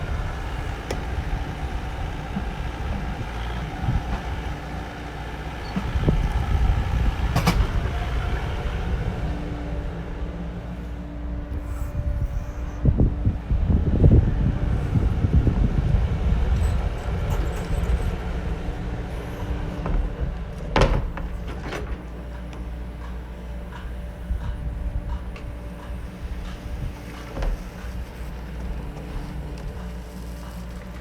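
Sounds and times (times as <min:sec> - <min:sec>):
machinery rumbling: 0:00.0 - 0:31.0.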